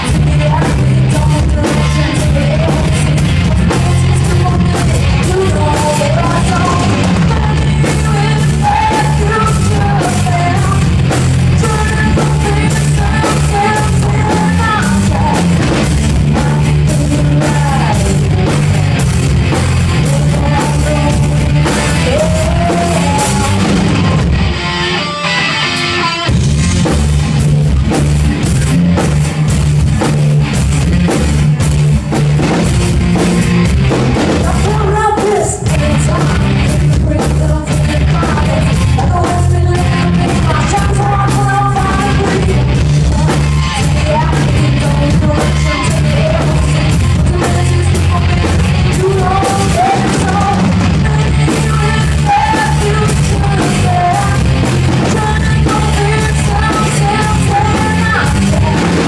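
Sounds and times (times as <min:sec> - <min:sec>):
person singing: 0:00.0 - 0:26.3, 0:34.3 - 0:59.0
rock band playing live: 0:00.0 - 0:59.0.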